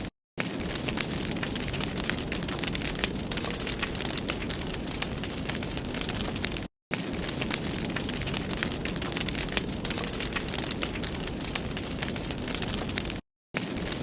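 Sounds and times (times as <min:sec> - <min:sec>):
fire crackles and pops: 0:00.0 - 0:14.0.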